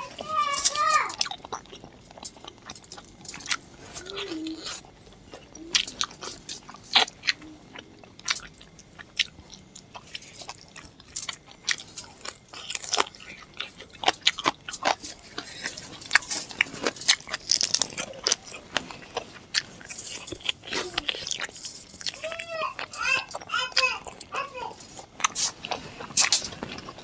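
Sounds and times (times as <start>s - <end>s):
person biting and chewing: 0.6s - 27.0s.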